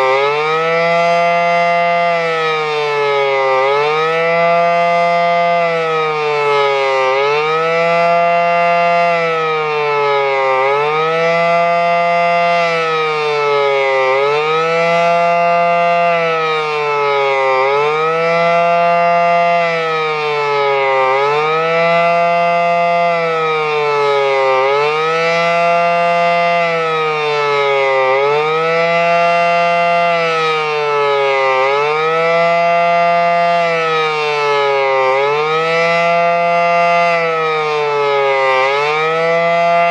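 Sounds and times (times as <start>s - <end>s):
outdoor warning siren wailing: 0.0s - 39.9s.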